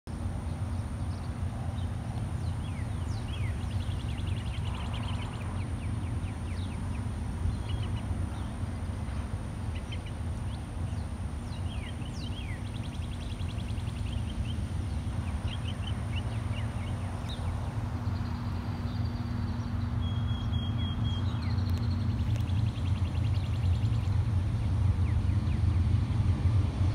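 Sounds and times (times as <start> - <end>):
distant freight train rumble: 0.1 - 26.9
songbirds chirping and trilling: 0.1 - 26.9.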